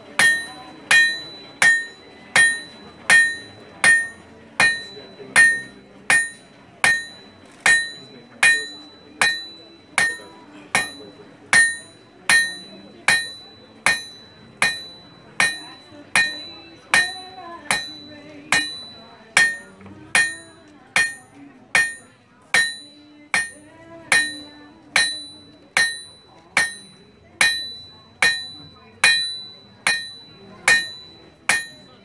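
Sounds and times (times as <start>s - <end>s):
hammer striking iron on anvil: 0.0s - 32.0s.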